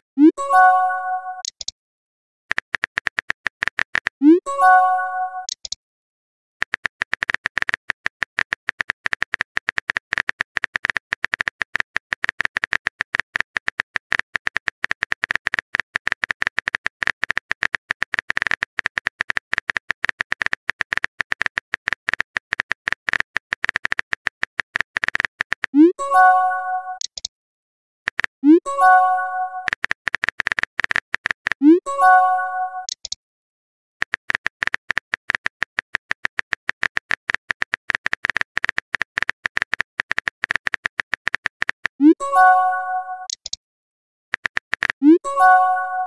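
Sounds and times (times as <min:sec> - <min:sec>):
phone keyboard typing clicks: 0:01.4 - 0:01.7, 0:02.5 - 0:04.4, 0:05.4 - 0:05.8, 0:06.6 - 0:27.3, 0:28.1 - 0:33.2, 0:34.0 - 0:43.6, 0:44.4 - 0:46.0.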